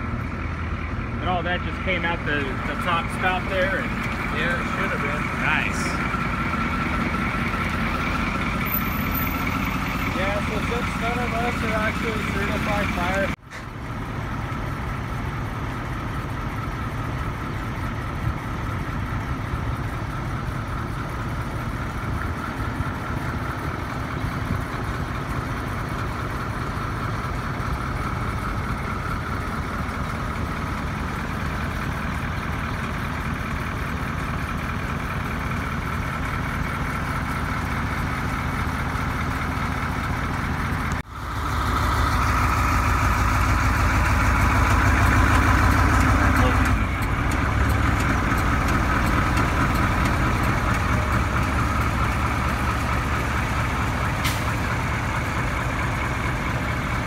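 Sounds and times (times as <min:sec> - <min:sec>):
fire truck diesel engine idling: 0:00.0 - 0:57.0.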